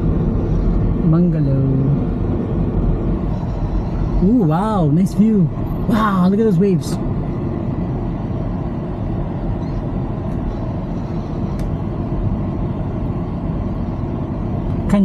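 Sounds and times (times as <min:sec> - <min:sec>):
van engine and road noise: 0:00.0 - 0:15.0.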